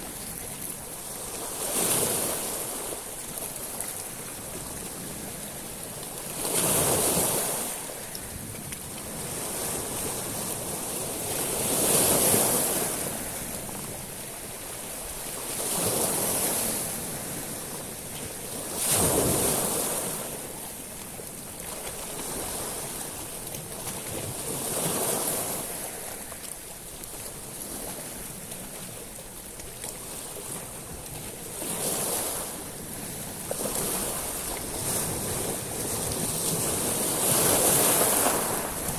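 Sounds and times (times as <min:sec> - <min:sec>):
waves washing over pebbles: 0:00.0 - 0:38.9.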